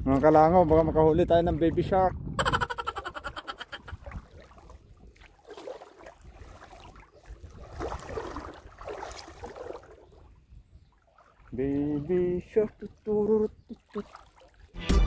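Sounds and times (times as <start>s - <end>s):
shallow water splashing: 0.0s - 14.8s.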